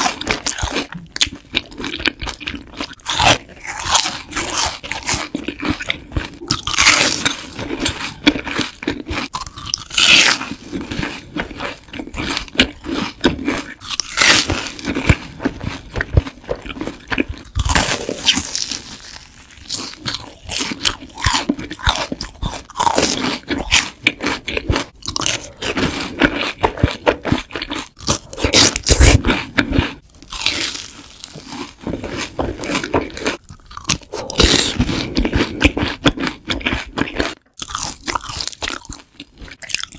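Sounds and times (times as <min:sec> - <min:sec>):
crunching crisp fried food: 0:00.0 - 0:39.9.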